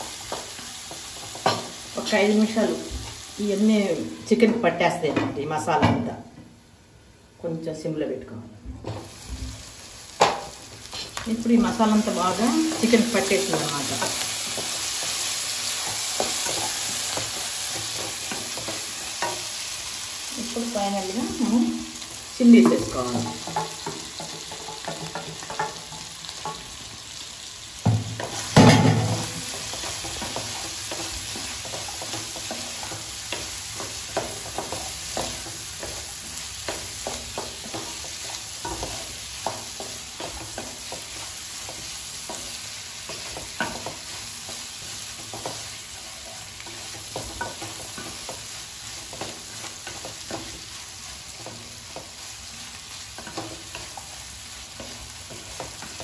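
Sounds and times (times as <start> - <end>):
chicken sizzling in oil: 0.0 - 4.4, 9.0 - 56.0.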